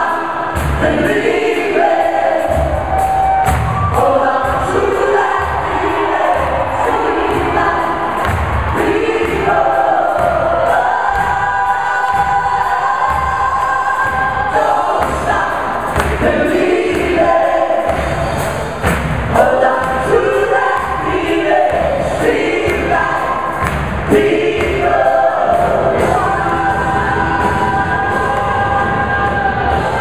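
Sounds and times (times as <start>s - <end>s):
people singing in chorus: 0.0s - 30.0s
live band playing: 0.2s - 30.0s.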